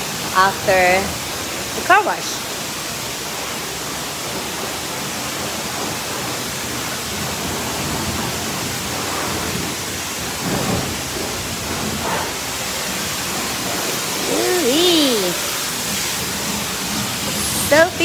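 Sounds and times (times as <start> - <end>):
high-pressure water spray: 0.0 - 18.0.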